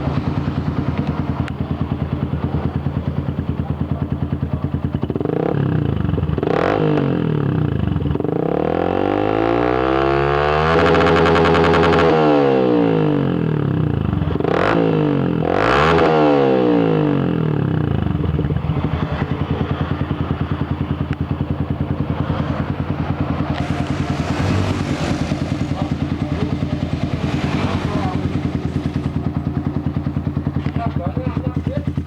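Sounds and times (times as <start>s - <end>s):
motorcycle engine revving and idling: 0.0s - 32.0s.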